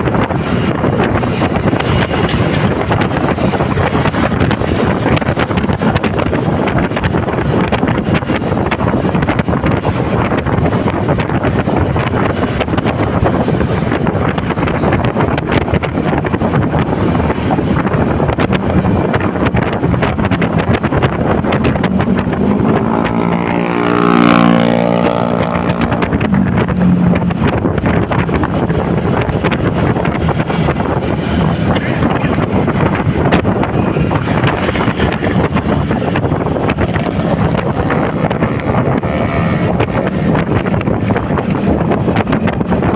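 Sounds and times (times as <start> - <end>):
motorcycle engine: 0.0 - 42.9
steady pitched vehicle tone: 0.0 - 42.9
surrounding traffic: 0.0 - 42.9
wind buffeting microphone: 0.0 - 42.9.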